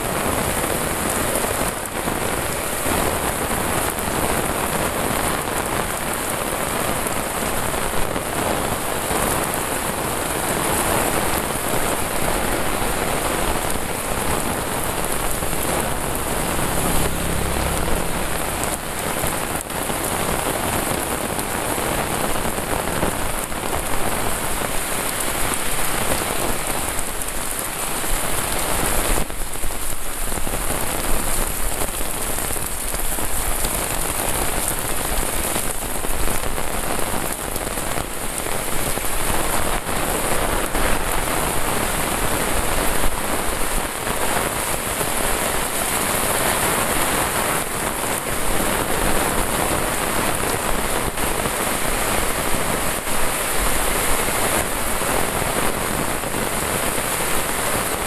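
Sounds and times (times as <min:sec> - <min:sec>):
heavy rain on road: 0:00.0 - 0:58.0.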